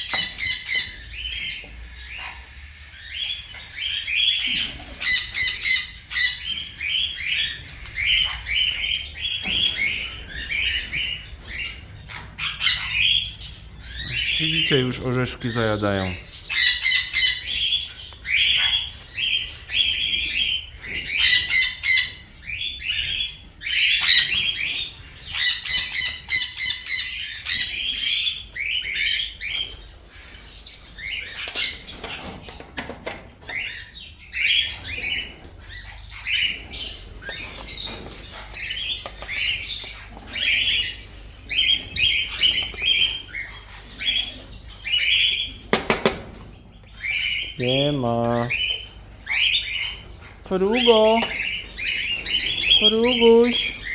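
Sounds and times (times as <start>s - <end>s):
parrots squawking and chirping: 0.0s - 53.9s.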